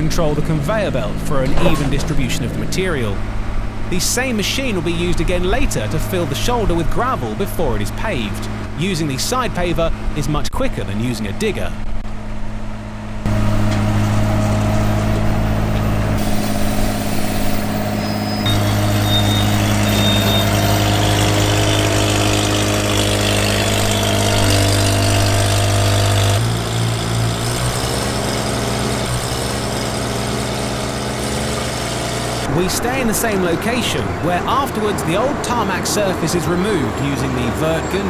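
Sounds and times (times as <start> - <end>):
heavy diesel engines humming: 0.0 - 38.0.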